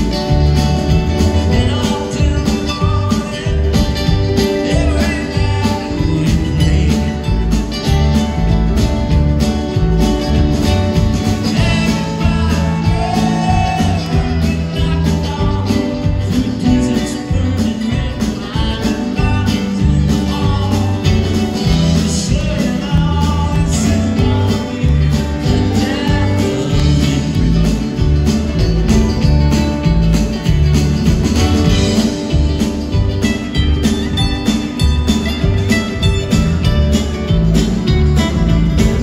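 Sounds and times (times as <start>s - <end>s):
string band playing: 0.0s - 39.0s.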